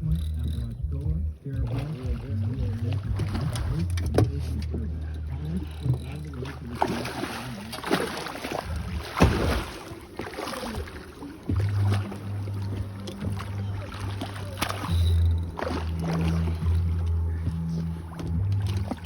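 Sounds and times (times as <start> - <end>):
boat motor humming: 0.0 - 19.0
knocks and thumps aboard boat: 0.0 - 19.0.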